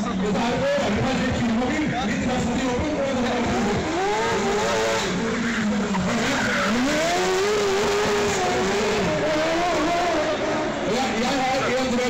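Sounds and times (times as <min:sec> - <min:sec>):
tyres skidding: 0:00.0 - 0:12.0
racing car engine revving: 0:00.1 - 0:12.0.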